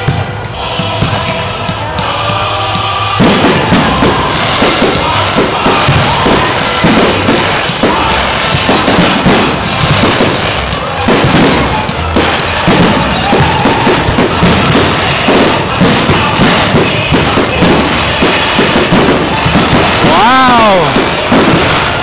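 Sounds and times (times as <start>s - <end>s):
music playing: 0.0s - 22.0s
firework shells bursting: 3.0s - 22.0s.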